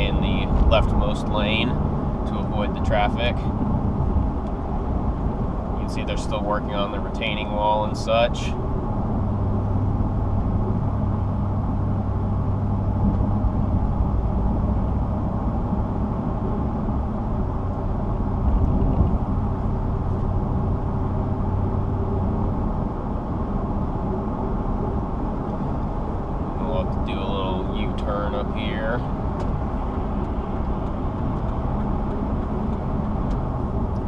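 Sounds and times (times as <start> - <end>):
hum: 0.0 - 34.0
tyre and engine rumble: 0.0 - 34.0.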